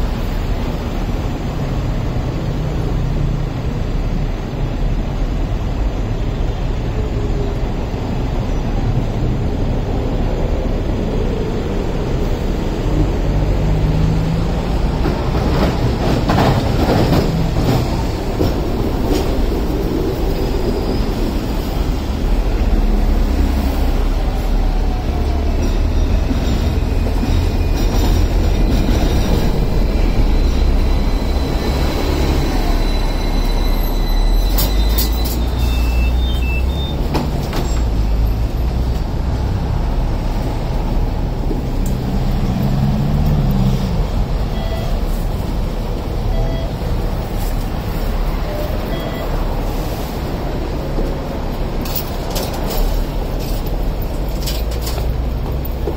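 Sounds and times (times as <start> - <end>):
road traffic: 0.0 - 55.9
trams rumbling along tracks: 0.0 - 55.9.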